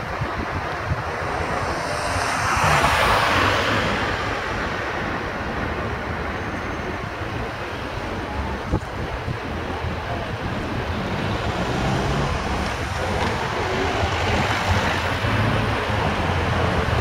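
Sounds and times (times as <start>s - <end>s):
street traffic rumble: 0.0s - 17.0s
wind buffeting microphone: 0.0s - 17.0s.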